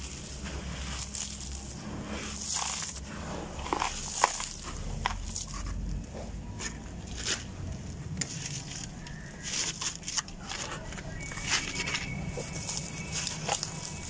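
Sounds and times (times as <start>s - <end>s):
sand and gravel crunching: 0.0s - 14.0s.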